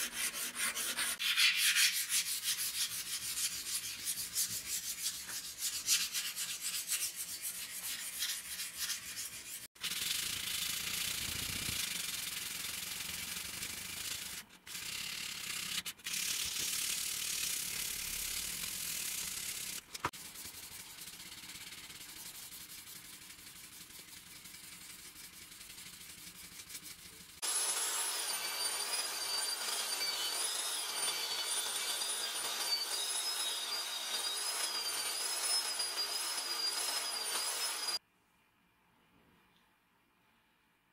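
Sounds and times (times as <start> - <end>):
abrasive rubbing on steel blade: 0.0 - 12.5, 13.9 - 38.0.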